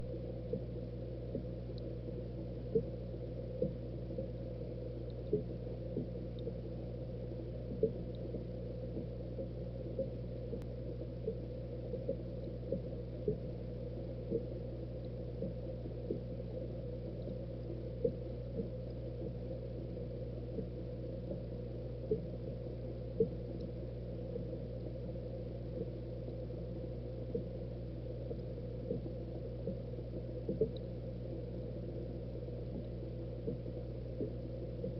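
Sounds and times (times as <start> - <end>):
aquarium water bubbling: 0.0 - 34.9
low hum: 0.0 - 34.9.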